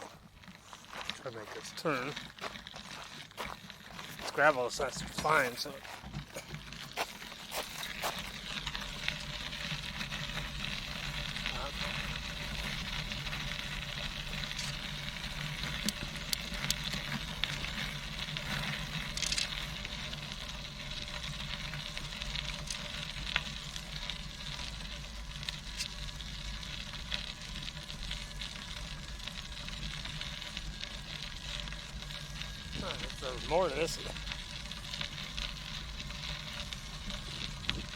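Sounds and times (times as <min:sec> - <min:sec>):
bicycle tyres rolling on gravel: 0:00.0 - 0:37.9.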